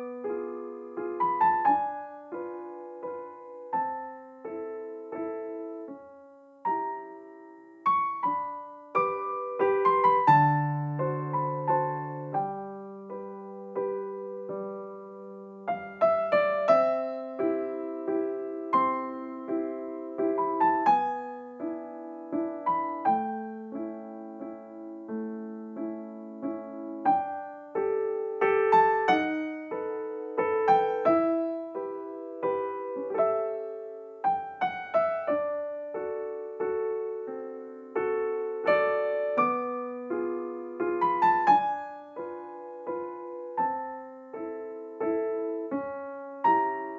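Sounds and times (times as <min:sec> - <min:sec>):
slow piano music: 0:00.0 - 0:46.9.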